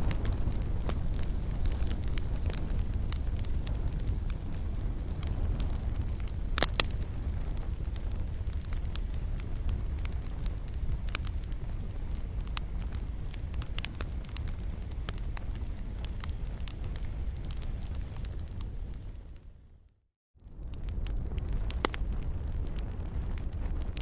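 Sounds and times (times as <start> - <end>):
wood fire crackling and popping: 0.0 - 19.7, 20.4 - 24.0
low rumble of flames: 0.0 - 24.0.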